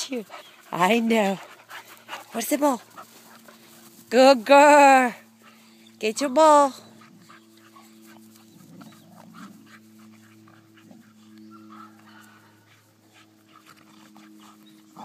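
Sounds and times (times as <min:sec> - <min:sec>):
dog play noises: 0:00.0 - 0:15.0
dogs scuffling on grass: 0:00.0 - 0:15.0
steady low hum: 0:00.0 - 0:15.0.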